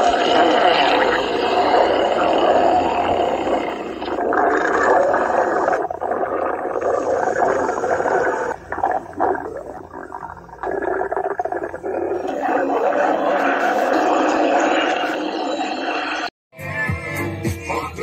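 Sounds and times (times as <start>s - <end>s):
cartoon stomach growl: 0.0s - 16.3s.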